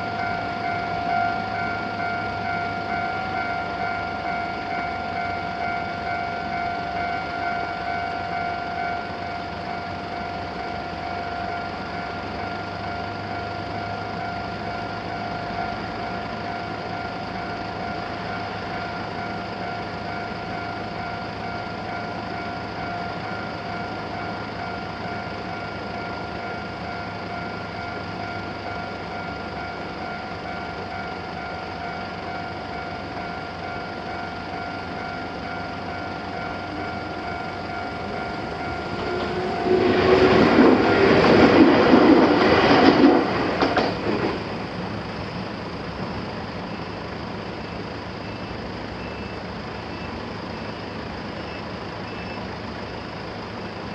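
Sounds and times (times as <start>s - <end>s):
electric train passing: 0.0s - 53.9s.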